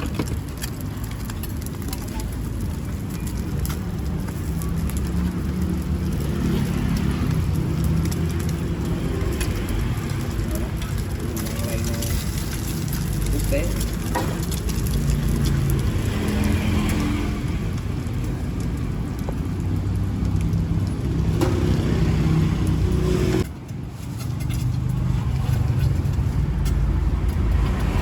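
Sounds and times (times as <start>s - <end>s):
motorbike engines passing: 0.0s - 28.0s.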